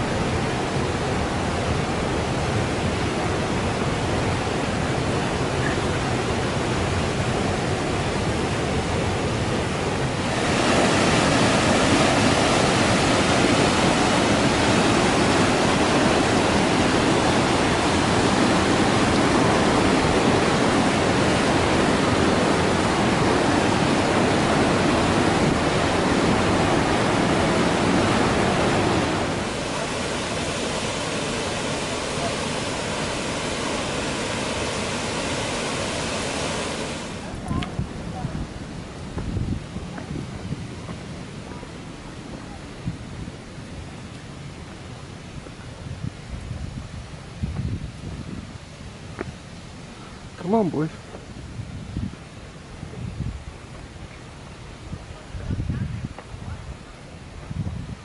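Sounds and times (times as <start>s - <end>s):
river rushing over waterfalls: 0.0s - 58.0s.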